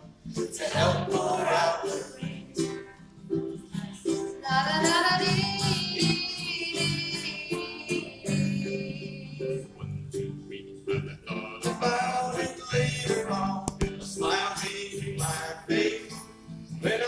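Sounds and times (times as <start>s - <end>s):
strummed plucked strings: 0.0s - 17.0s.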